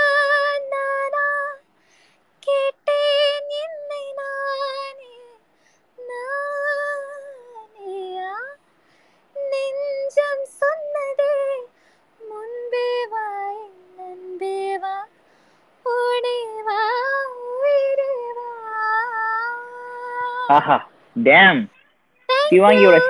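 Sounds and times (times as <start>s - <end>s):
woman singing unaccompanied: 0.0s - 1.8s, 2.4s - 8.6s, 9.3s - 15.2s, 15.8s - 20.8s, 22.3s - 23.0s.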